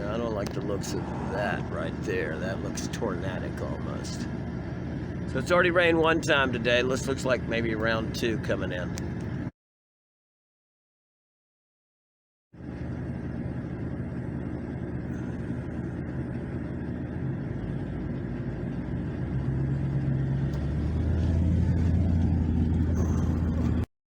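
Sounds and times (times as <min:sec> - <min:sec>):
road noise: 0:00.0 - 0:09.5, 0:12.6 - 0:23.9
vehicle engine humming: 0:00.0 - 0:09.5, 0:12.6 - 0:23.9.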